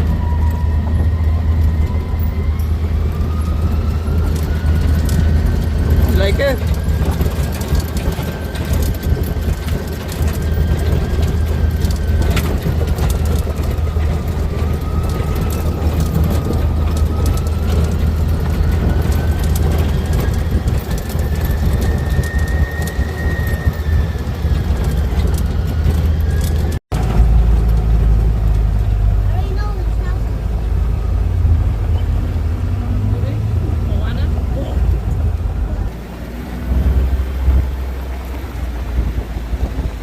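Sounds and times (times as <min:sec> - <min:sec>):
moving vehicle rumble from inside: 0:00.0 - 0:40.0.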